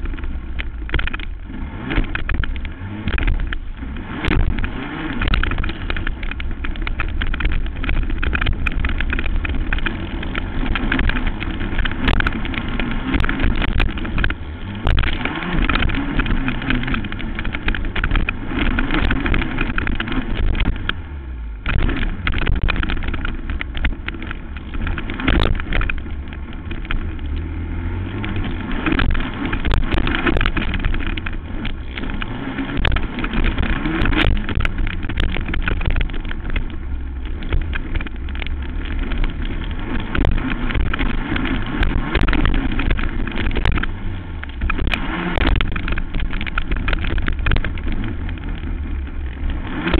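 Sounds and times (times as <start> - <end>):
quad engine revving: 0.0 - 49.9
sharp knocks over rough track: 0.0 - 49.9.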